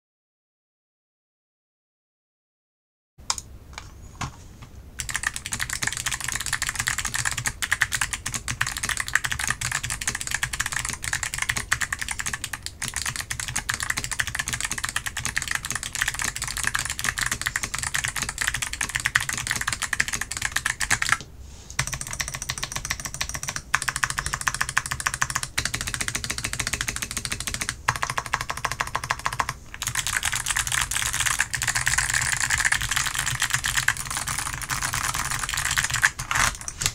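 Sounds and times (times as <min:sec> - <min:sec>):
fast typing on clicky keyboard: 0:05.0 - 0:21.2, 0:21.8 - 0:36.9.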